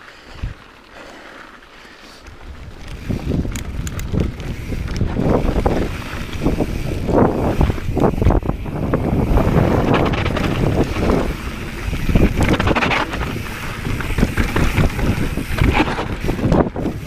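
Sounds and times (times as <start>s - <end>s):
bike clicking and rattling: 0.0s - 17.0s
tyres crunching on dirt: 0.0s - 17.0s
wind buffeting microphone: 2.3s - 17.0s.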